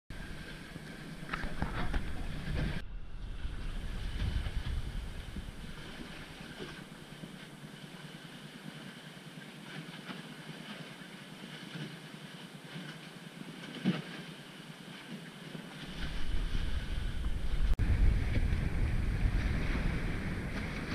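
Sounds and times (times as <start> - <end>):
wind and sea noise: 0.1 - 20.9.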